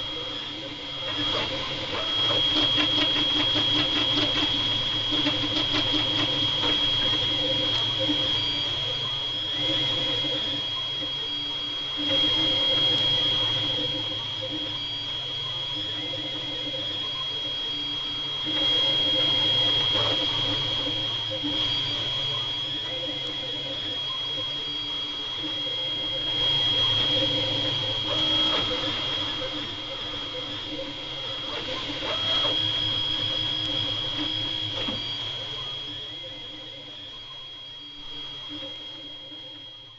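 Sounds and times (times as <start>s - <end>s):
steady high whine: 0.0s - 39.9s.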